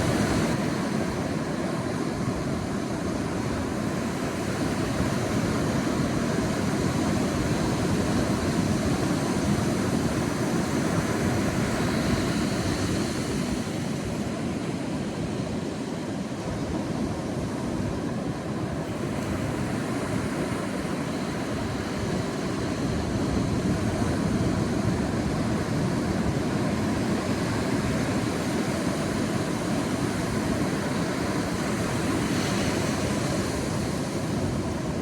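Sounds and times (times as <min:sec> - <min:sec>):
sea waves washing on beach: 0:00.0 - 0:35.0.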